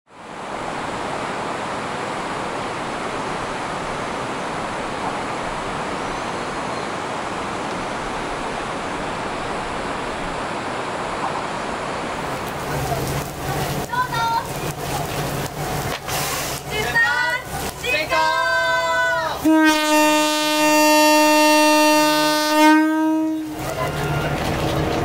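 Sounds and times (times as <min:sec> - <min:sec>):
river rapids rushing: 0:00.1 - 0:25.0.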